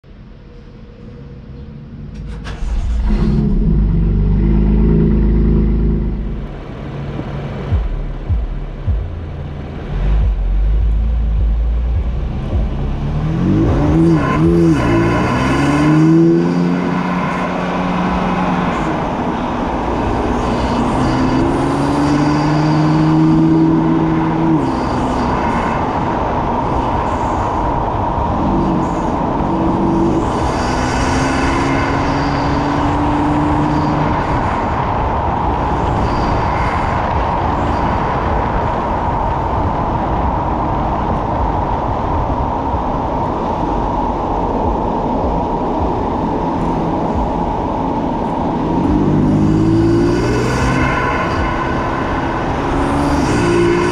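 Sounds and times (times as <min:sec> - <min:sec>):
road and tyre noise: 0:00.0 - 0:53.9
car engine accelerating hard: 0:01.3 - 0:53.9.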